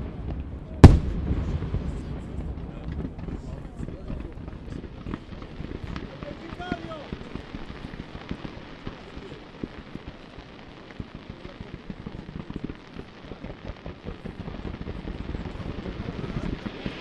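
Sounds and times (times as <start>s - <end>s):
distant fireworks crackling: 0.0s - 17.0s.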